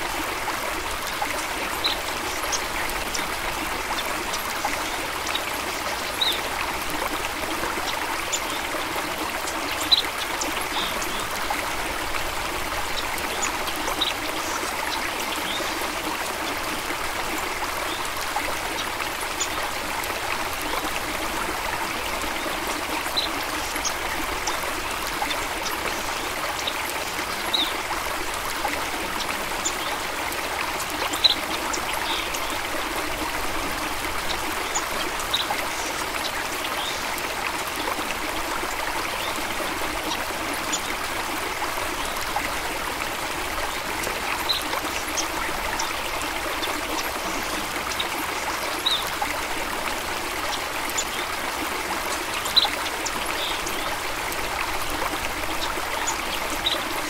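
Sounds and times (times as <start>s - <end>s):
stream of water trickling: 0.0s - 57.0s.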